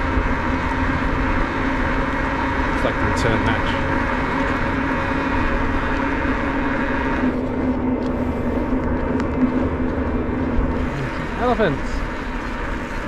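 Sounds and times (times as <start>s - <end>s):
bicycle rolling on asphalt: 0.0s - 13.0s
steady low hum: 0.0s - 13.0s.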